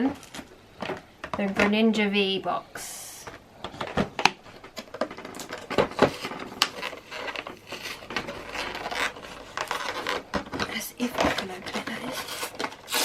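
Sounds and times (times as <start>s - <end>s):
cardboard and plastic packaging handled: 0.0s - 1.8s, 3.2s - 13.0s.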